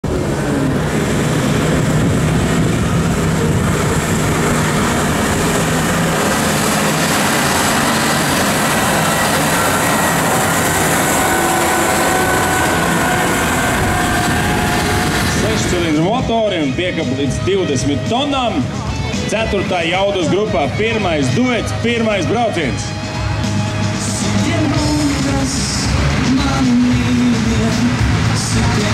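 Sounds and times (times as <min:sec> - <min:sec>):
tractor diesel engines under load: 0:00.0 - 0:28.9.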